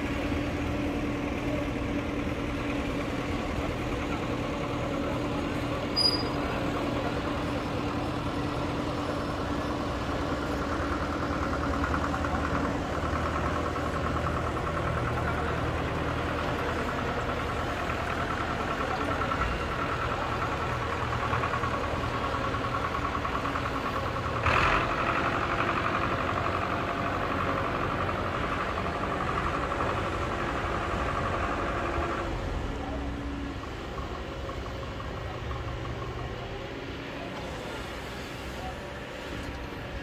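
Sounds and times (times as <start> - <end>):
diesel engines running: 0.0 - 40.0.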